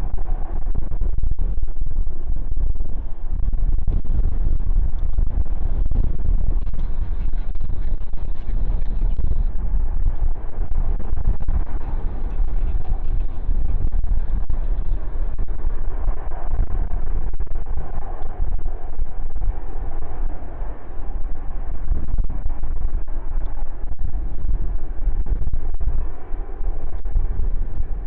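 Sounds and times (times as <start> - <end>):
jet engine noise: 0.0 - 28.0
wind buffeting microphone: 0.0 - 28.0.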